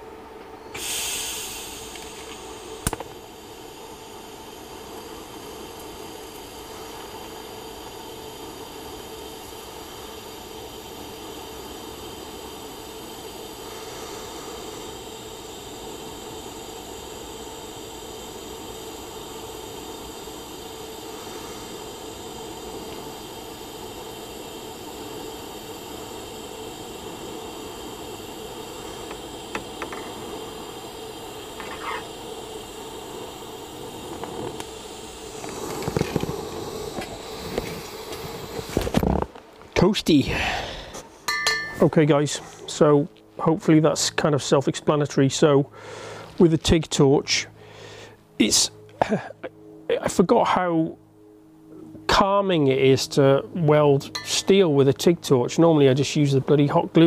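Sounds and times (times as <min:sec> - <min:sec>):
welding arc hissing: 0:00.0 - 0:50.2, 0:52.1 - 0:57.0.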